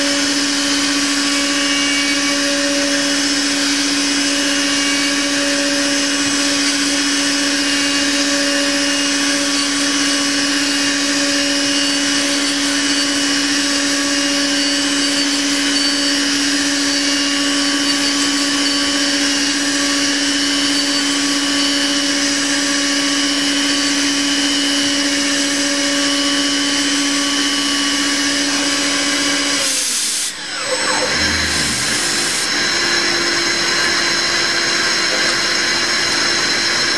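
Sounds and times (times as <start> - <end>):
end mill cutting noise: 0.0 - 36.9.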